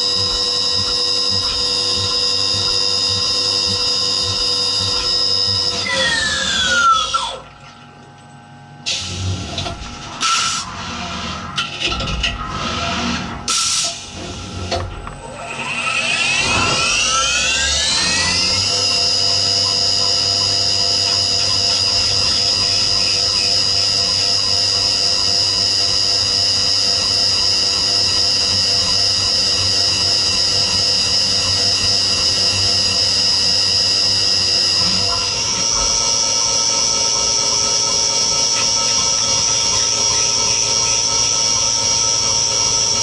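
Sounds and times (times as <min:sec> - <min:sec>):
mill spindle whine: 0:00.0 - 0:43.0.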